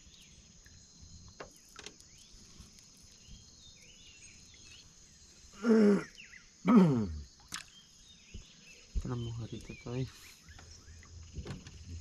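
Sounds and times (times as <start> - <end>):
bird chirps: 0.0 - 6.6, 7.5 - 12.0
insect chorus buzzing: 0.0 - 12.0.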